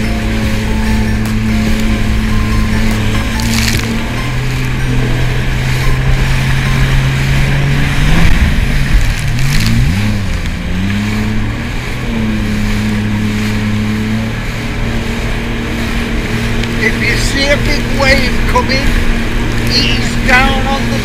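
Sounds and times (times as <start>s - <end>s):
jet ski engine: 0.0s - 21.0s
wind: 0.0s - 21.0s.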